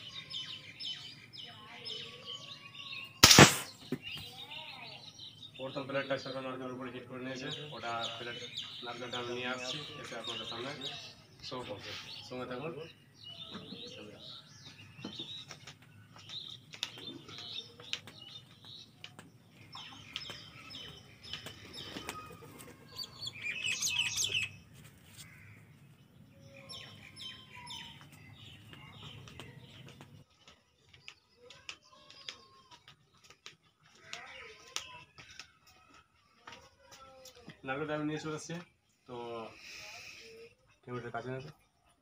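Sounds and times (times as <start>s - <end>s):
birds chirping and calling: 0.0s - 42.0s.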